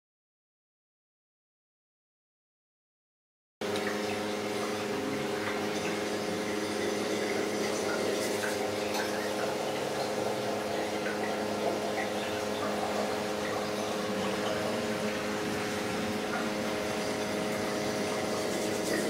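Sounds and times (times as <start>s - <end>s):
water pumps humming: 3.6s - 19.0s
water trickling and bubbling: 3.6s - 19.0s.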